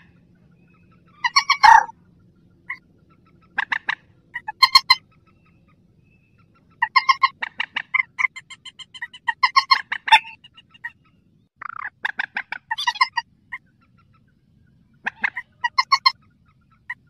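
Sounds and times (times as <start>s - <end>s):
rail bird calling: 0.0s - 17.0s.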